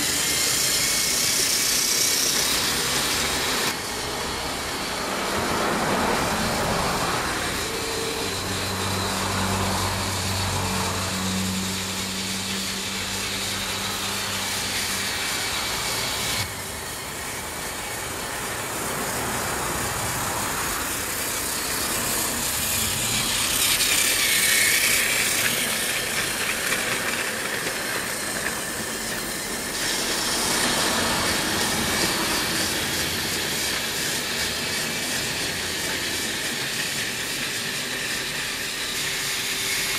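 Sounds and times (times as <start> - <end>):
toy train whirring and rattling: 0.0 - 39.9.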